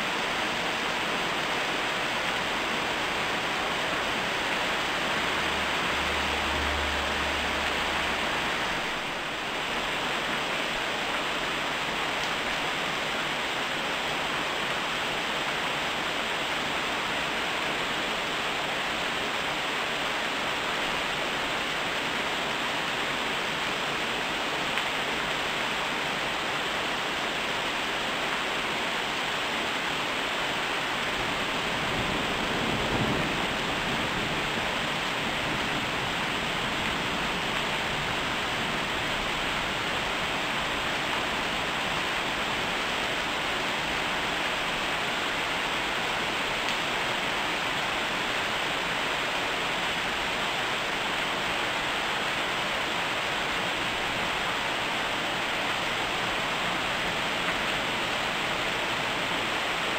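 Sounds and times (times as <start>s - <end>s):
heavy rain on trees: 0.0s - 59.9s.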